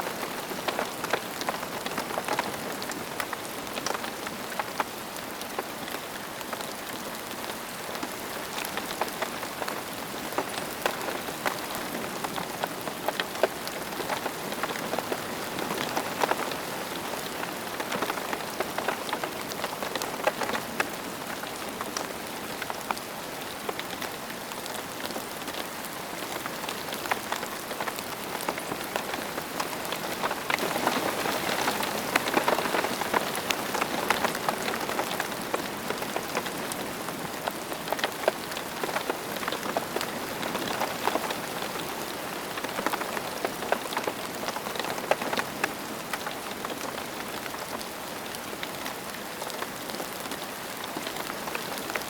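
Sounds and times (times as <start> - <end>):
steady rain falling: 0.0 - 52.0
raindrops ticking close by: 0.1 - 52.0.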